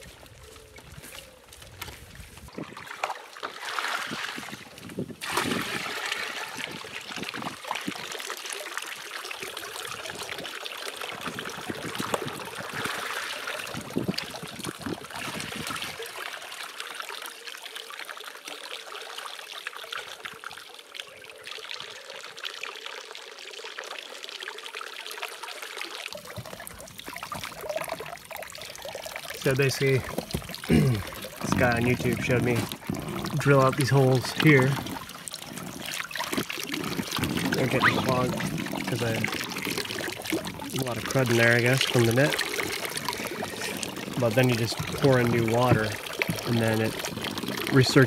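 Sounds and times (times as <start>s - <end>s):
water trickling and splashing: 0.0s - 48.0s.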